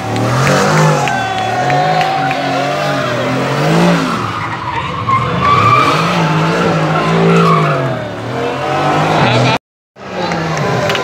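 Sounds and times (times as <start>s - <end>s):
tyres squealing and skidding: 0.0s - 9.6s
car engine revving: 0.0s - 11.0s.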